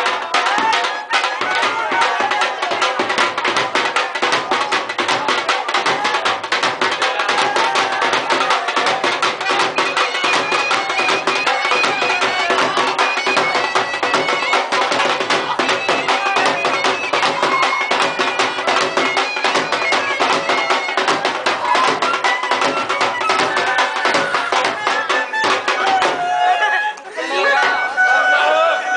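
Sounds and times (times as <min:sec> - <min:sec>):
fast drumbeat: 0:00.0 - 0:26.4.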